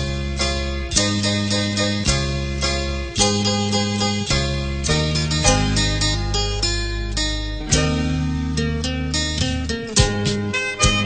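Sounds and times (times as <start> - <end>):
plucked-string melody: 0.0 - 11.0
steady bass: 0.0 - 11.0.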